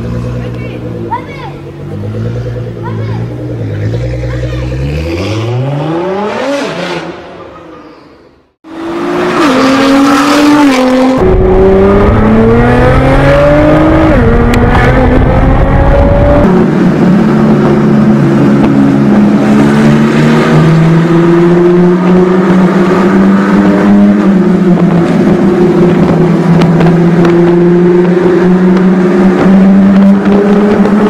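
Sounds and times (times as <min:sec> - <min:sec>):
car engine at moderate revs: 0:00.0 - 0:07.4, 0:08.7 - 0:31.0.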